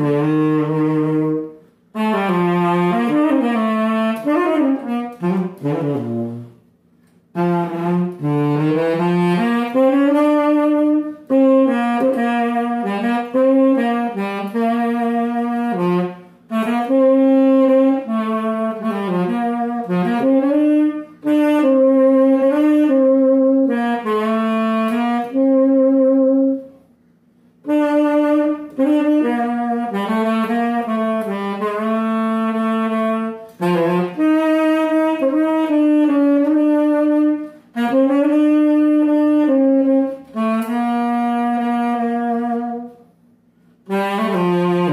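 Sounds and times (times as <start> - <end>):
tenor saxophone melody: 0.0 - 44.9.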